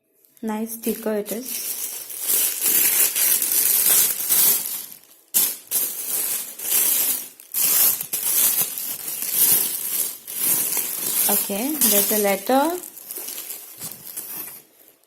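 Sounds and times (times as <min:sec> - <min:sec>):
packaging rustling and crinkling: 0:00.8 - 0:15.0.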